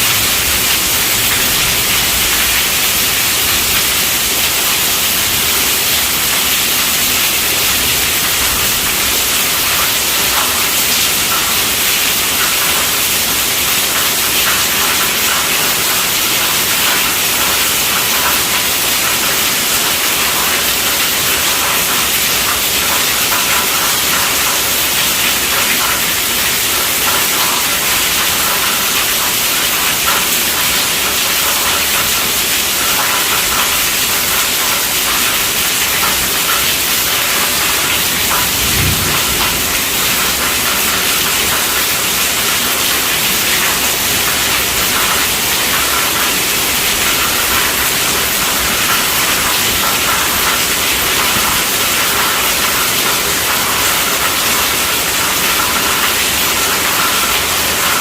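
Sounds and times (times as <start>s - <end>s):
heavy rain on a tent roof: 0.0s - 58.0s.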